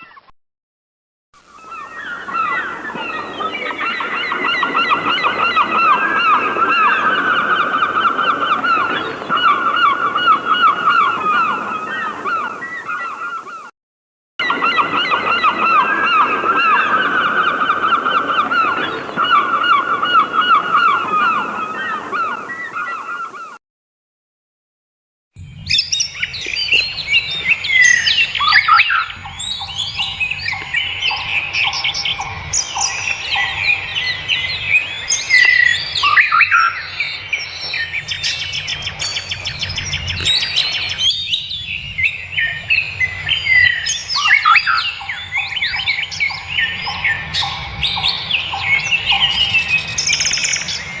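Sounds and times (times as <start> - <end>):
songbirds chirping and singing: 1.6 - 13.7, 14.4 - 23.6, 25.5 - 51.0.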